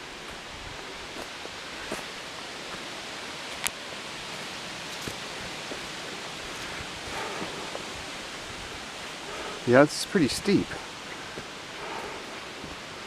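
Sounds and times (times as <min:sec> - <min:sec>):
footsteps on trail: 0:00.0 - 0:13.0
steady rushing hiss: 0:00.0 - 0:13.0.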